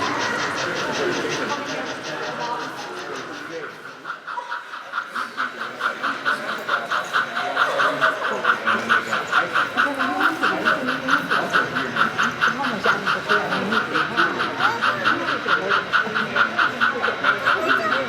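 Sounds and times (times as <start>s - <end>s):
faint voices murmuring: 0.0s - 18.0s
steam locomotive chuffing: 0.0s - 18.0s.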